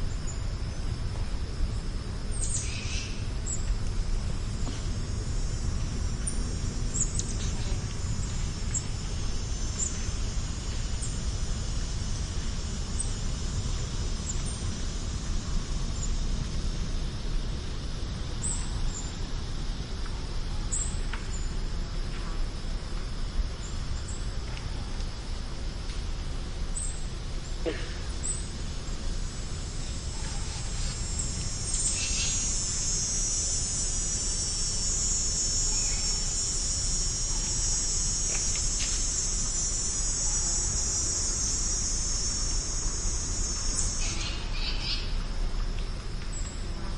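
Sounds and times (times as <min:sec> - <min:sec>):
insects singing: 0:00.0 - 0:21.6, 0:26.7 - 0:46.6
steady low rumble: 0:00.0 - 0:46.9.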